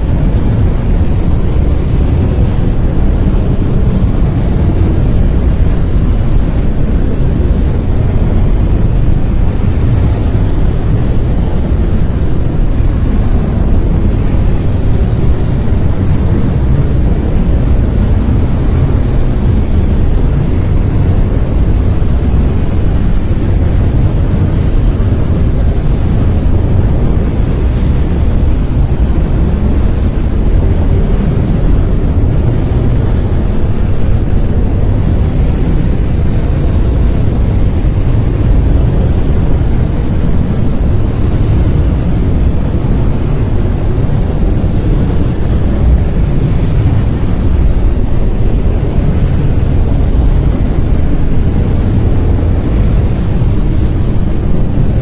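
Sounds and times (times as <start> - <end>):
deep rumbling brown noise: 0.0 - 55.0.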